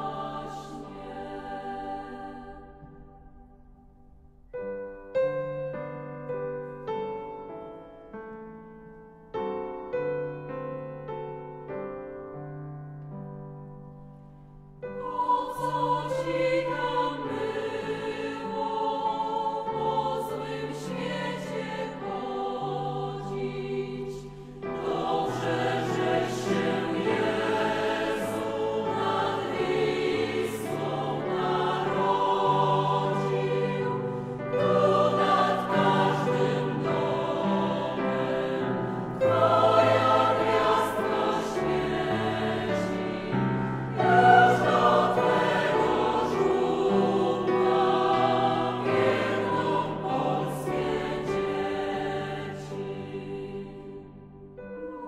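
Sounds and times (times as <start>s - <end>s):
choir singing with accompaniment: 0.0s - 4.9s, 14.8s - 55.0s.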